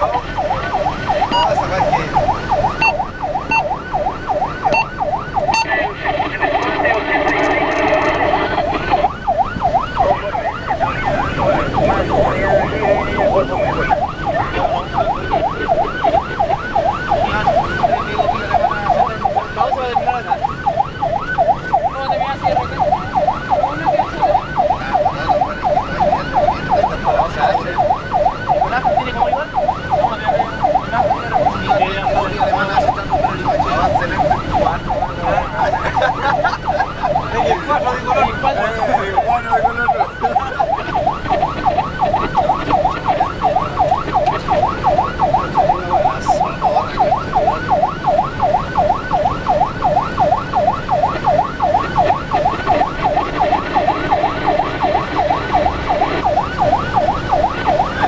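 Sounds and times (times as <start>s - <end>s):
fire engine siren yelping: 0.0s - 58.0s.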